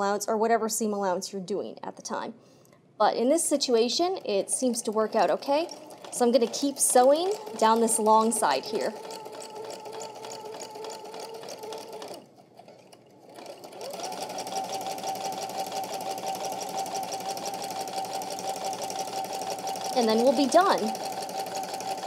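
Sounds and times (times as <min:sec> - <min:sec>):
electric sewing machine stitching: 0:03.7 - 0:22.0.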